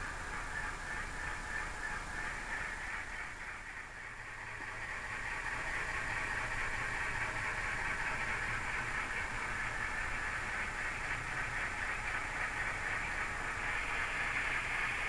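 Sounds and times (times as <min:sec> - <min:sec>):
hissy diesel engine rumble: 0:00.0 - 0:15.0.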